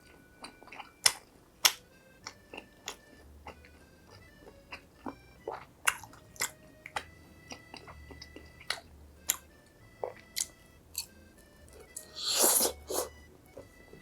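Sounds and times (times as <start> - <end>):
crunching bites of fried food: 0.4 - 13.7.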